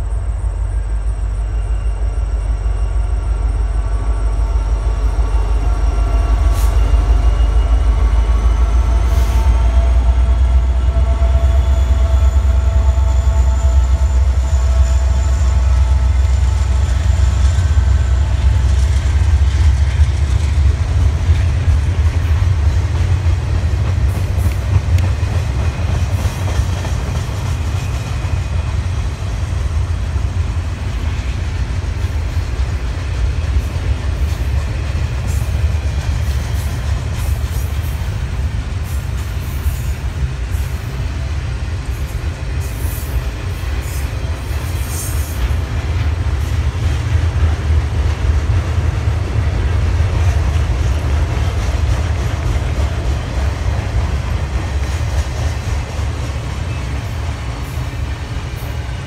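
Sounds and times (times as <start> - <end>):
diesel locomotives rumbling: 0.0 - 59.0
train wheels clattering on rail: 0.0 - 59.0.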